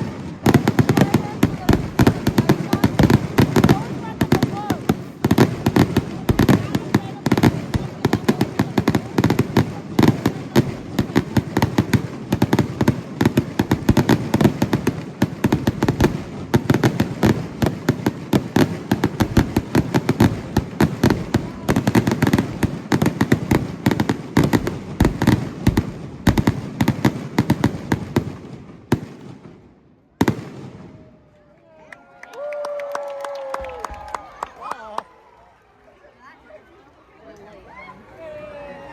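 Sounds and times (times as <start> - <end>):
fireworks bangs and crackles: 0.0 - 31.3.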